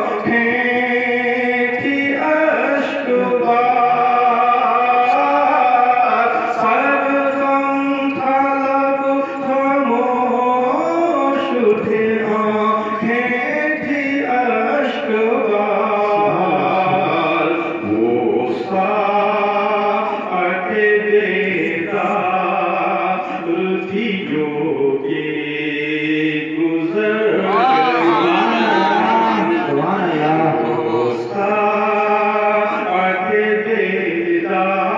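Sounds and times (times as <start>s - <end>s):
man chanting devotional verse: 0.0s - 34.9s.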